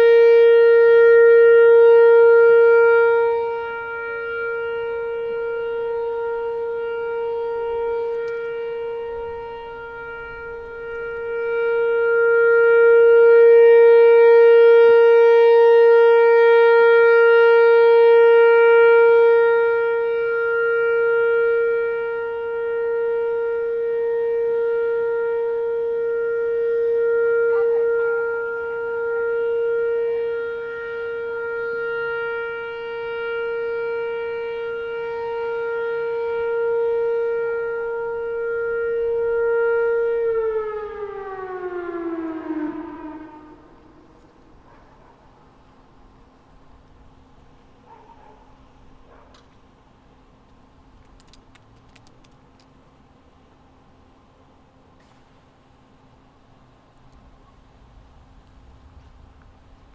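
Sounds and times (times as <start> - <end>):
warning siren steady tone: 0.0 - 50.4.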